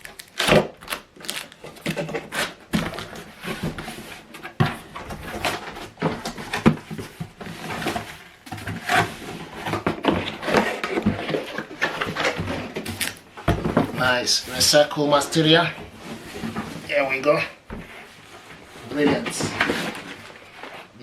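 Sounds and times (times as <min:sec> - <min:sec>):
cardboard box rustling and scraping: 0:01.7 - 0:21.0.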